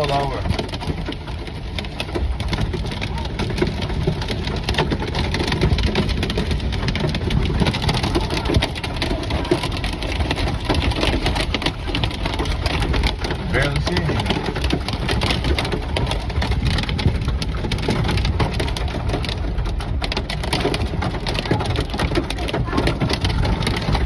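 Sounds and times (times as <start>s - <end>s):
engine and road rumble: 0.0s - 24.0s
rain and hail on a van roof: 0.0s - 24.0s.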